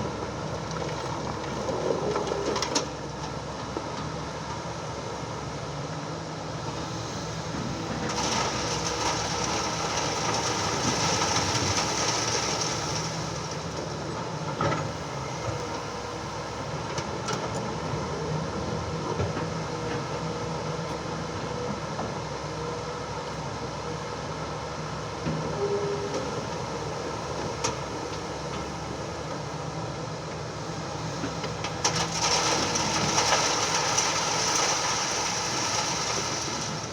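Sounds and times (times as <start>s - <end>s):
excavator engine running: 0.0s - 36.9s.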